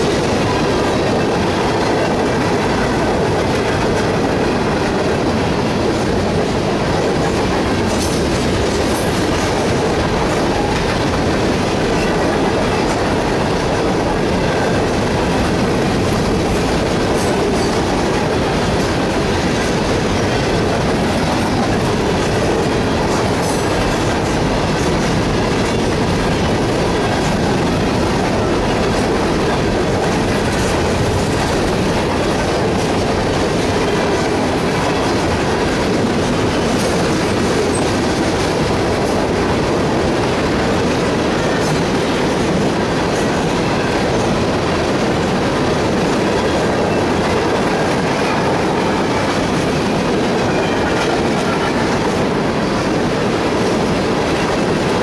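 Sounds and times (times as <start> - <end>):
steel wheels rolling on rail: 0.0 - 55.0
train wheels clicking: 0.0 - 55.0.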